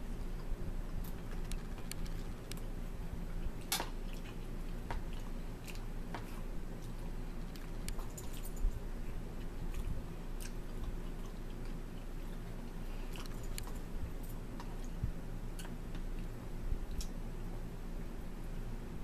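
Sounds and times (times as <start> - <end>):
steady low hum: 0.0 - 19.0
people chewing food: 0.1 - 17.7.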